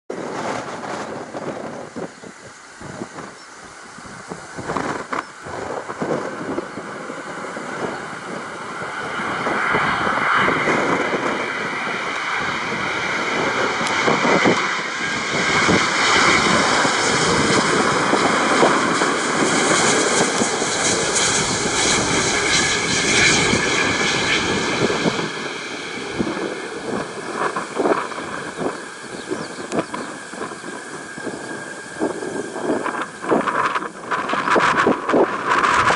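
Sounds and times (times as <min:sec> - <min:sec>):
jet engines rumbling and whining: 0:00.1 - 0:35.9.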